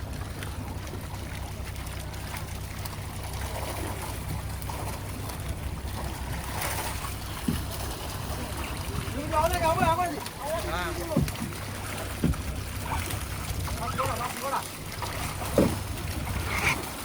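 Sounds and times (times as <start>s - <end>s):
boat engine humming: 0.0s - 17.0s
water washing past hull: 0.0s - 17.0s
wind: 0.0s - 17.0s.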